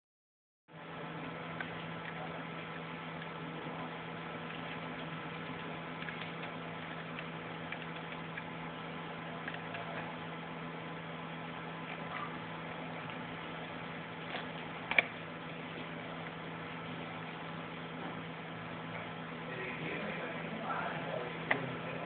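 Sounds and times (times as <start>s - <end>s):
steady low hum: 0.7s - 22.0s.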